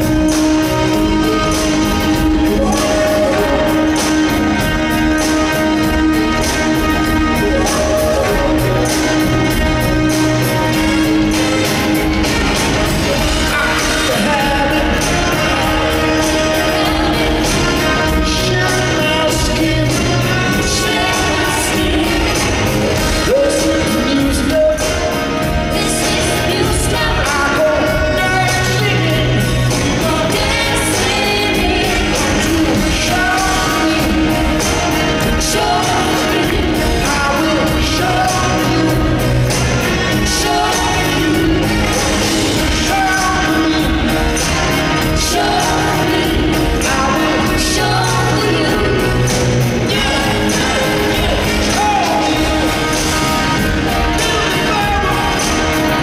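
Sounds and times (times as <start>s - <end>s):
live rock band with vocals: 0.0s - 56.0s.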